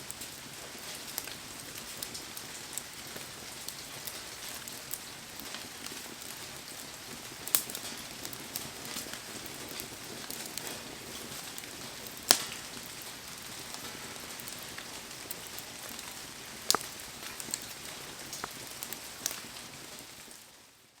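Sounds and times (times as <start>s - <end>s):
burning wood popping: 0.1s - 20.4s.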